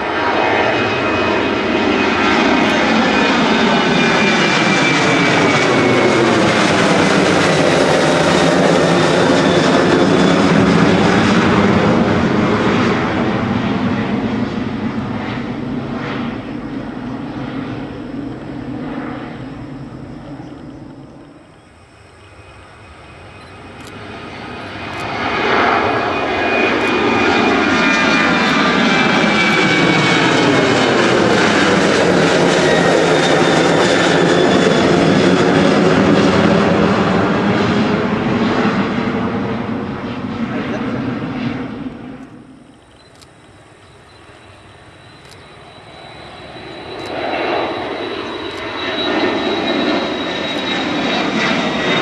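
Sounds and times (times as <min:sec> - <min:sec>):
jet engines at takeoff: 0:00.0 - 0:52.0.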